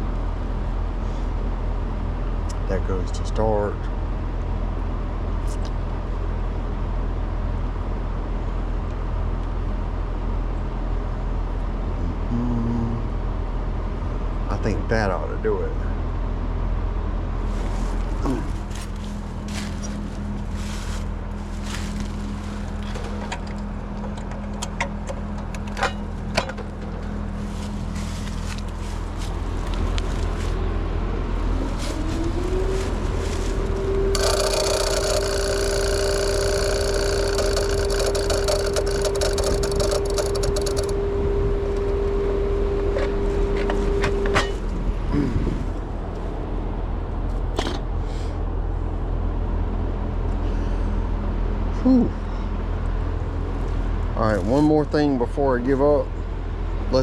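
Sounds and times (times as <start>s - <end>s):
electrical hum: 0.0s - 50.1s.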